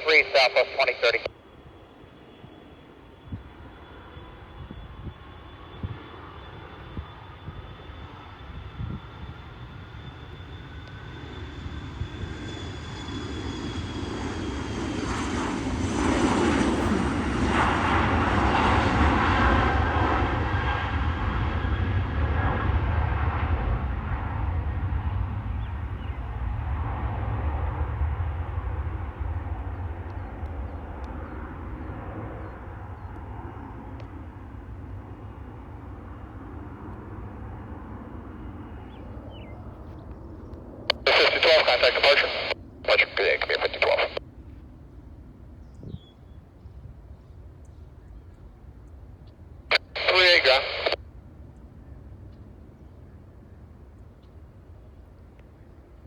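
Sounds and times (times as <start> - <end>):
jet aircraft engines passing: 0.0 - 45.6, 47.4 - 56.0.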